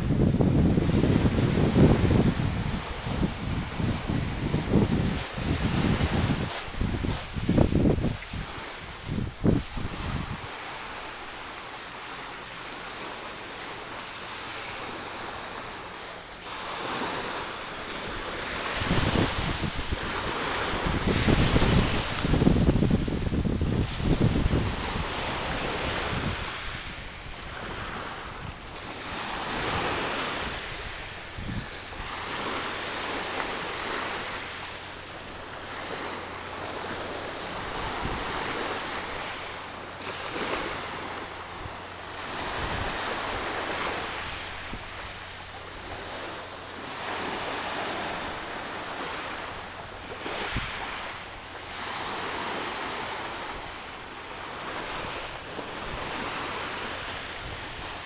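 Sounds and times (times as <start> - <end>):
wind on microphone: 0.0 - 11.4, 16.6 - 53.8
small waves washing ashore: 0.0 - 58.0.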